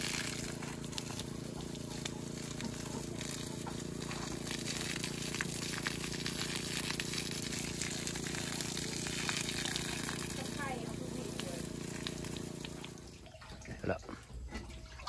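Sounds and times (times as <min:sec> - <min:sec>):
hose water spraying and splashing: 0:00.0 - 0:14.0
steady low hum: 0:00.0 - 0:15.0.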